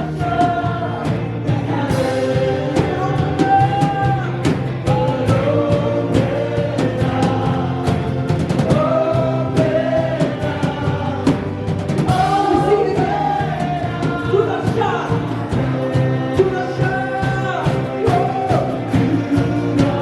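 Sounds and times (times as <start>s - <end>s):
drums and cymbals: 0.0s - 20.0s
voices singing: 0.0s - 20.0s.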